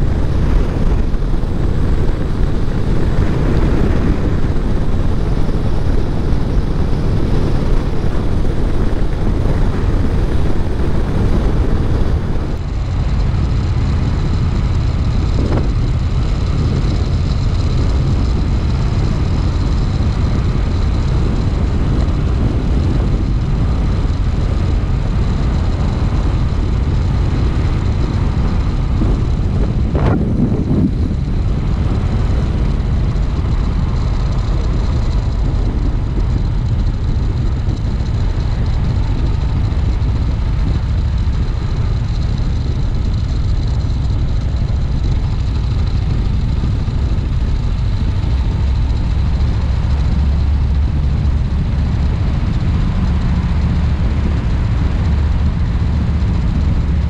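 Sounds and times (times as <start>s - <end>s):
motorcycle engine drone: 0.0s - 57.0s
road noise: 0.0s - 57.0s.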